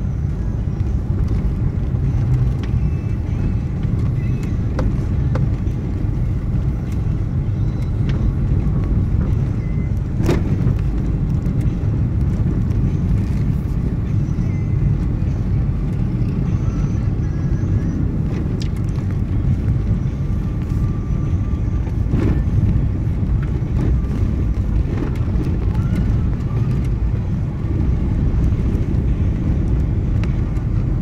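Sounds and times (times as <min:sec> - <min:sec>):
vehicle rumble on the move: 0:00.0 - 0:31.0.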